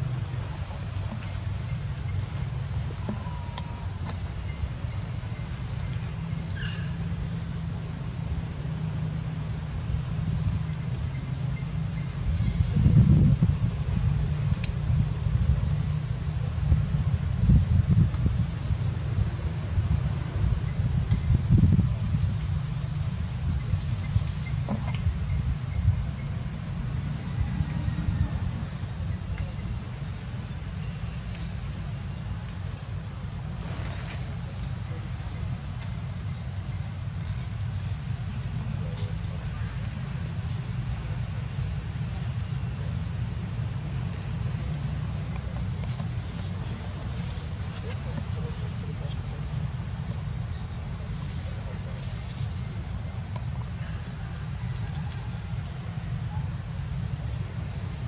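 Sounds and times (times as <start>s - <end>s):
high-pitched insect drone: 0.0s - 58.0s.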